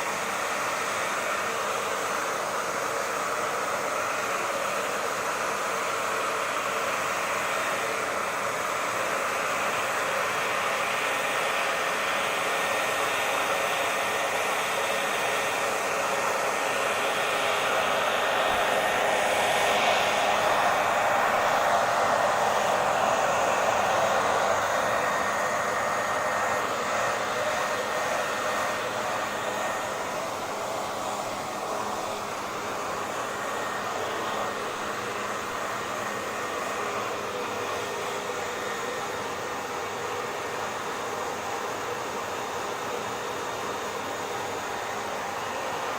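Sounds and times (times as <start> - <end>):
hair dryer blowing: 0.0 - 45.9.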